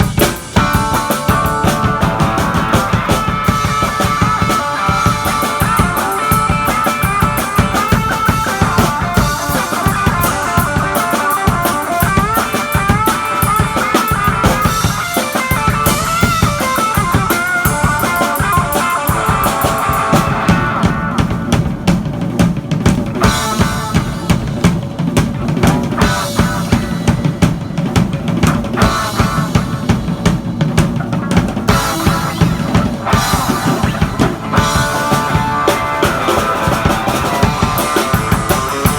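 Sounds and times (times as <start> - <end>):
drum kit: 0.0 - 38.9
electric guitar lead: 0.0 - 38.9.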